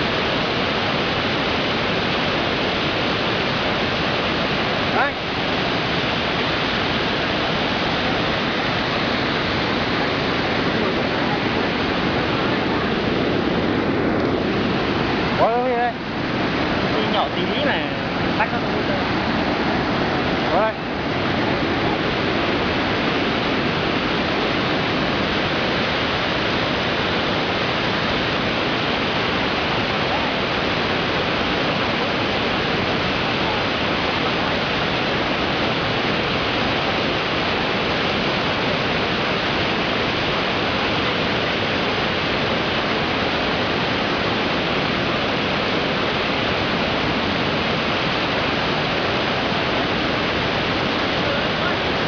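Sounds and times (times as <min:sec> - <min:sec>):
fast-flowing water rushing: 0:00.0 - 0:52.0.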